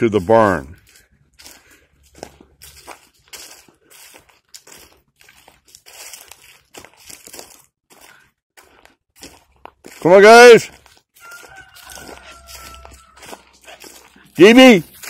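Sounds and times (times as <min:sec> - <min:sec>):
footsteps on gravel and dry leaves: 0:00.0 - 0:15.0.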